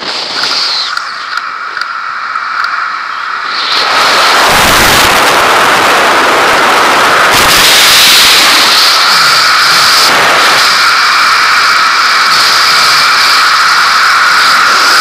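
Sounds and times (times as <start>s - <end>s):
wind roaring over microphone: 0.0s - 15.0s.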